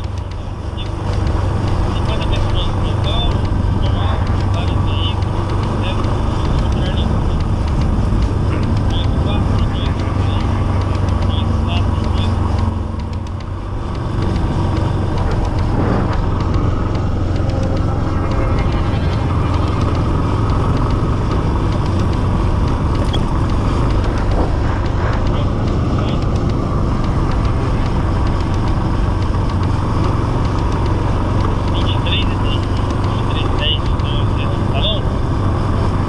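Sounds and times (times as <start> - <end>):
motorcycle engine running: 0.0 - 36.0
road and wind noise: 0.0 - 36.0.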